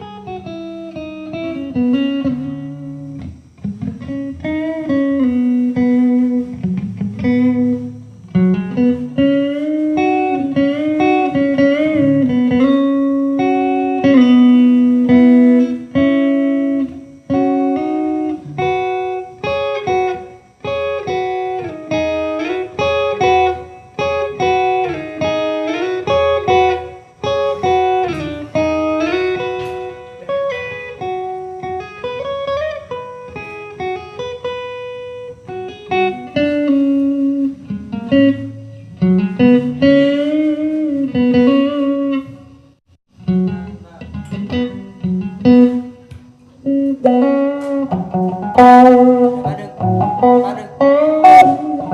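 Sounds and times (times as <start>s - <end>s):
guitar playing slow melody: 0.0s - 51.9s.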